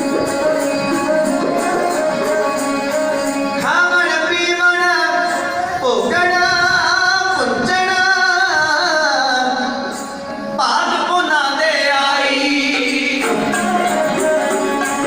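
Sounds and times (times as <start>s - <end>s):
instrumental music: 0.0s - 7.0s, 8.0s - 15.0s
person singing long notes: 0.0s - 15.0s.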